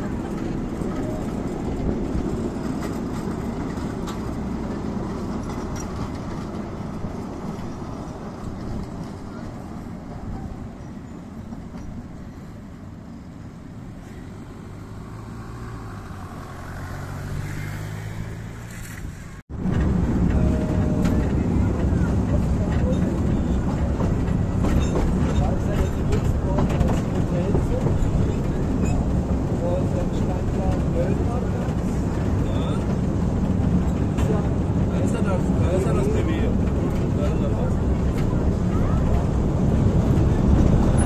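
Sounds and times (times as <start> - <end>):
low engine hum: 0.0 - 41.0
rumble aboard moving train: 0.0 - 41.0
train wheels rumbling past: 0.0 - 41.0.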